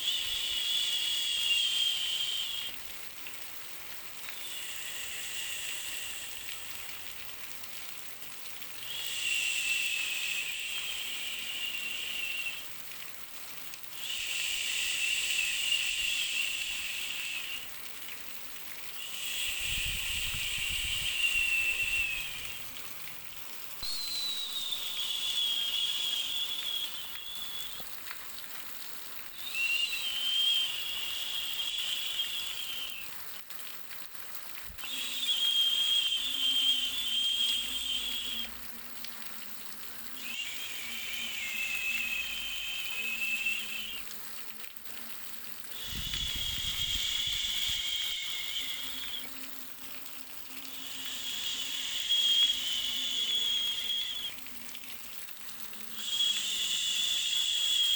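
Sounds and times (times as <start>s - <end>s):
faint whistling tone: 0.0s - 3.0s, 4.2s - 7.2s, 8.8s - 13.0s, 14.0s - 18.2s, 18.9s - 23.1s, 23.8s - 28.2s, 29.2s - 33.2s, 34.7s - 44.6s, 45.6s - 57.9s
high white noise hiss: 0.0s - 57.9s.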